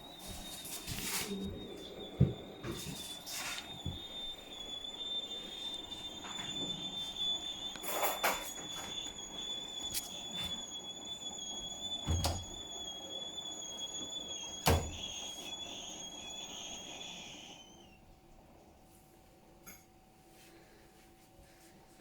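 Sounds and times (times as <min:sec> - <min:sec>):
appliance high-pitched squeal: 0:00.0 - 0:18.2.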